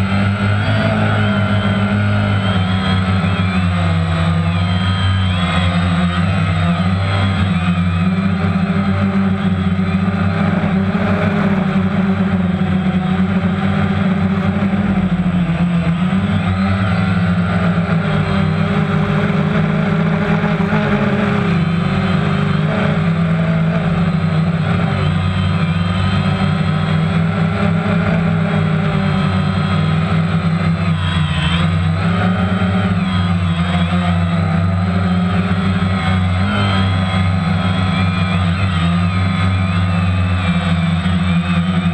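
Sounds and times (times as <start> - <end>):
drone propellers humming: 0.0 - 41.9.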